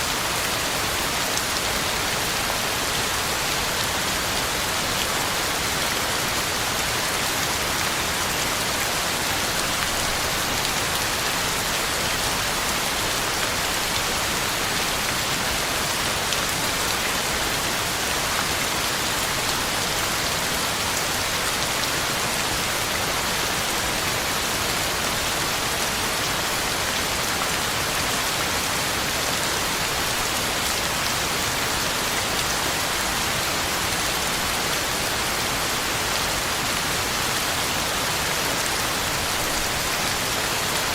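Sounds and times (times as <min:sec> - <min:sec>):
heavy rain on ground and leaves: 0:00.0 - 0:40.9.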